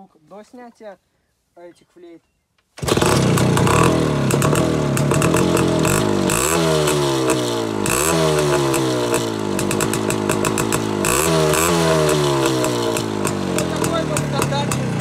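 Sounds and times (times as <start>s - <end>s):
two-stroke motorcycle engine revving: 2.8s - 15.0s.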